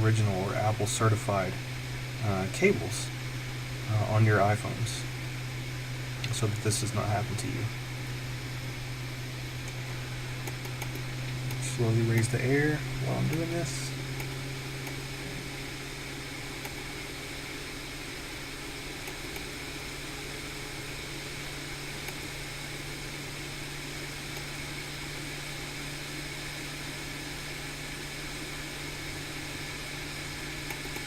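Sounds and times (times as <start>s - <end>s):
hot air blower fan hiss: 0.0s - 31.0s.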